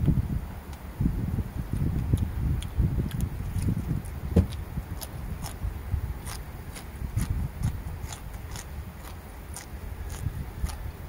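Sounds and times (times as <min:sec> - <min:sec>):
chewing crisp raw bean: 0:02.0 - 0:11.0.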